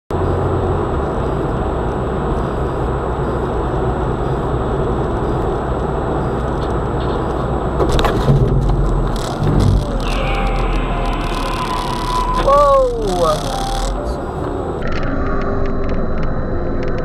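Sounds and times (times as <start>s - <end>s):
car road noise from inside: 0.1s - 17.0s.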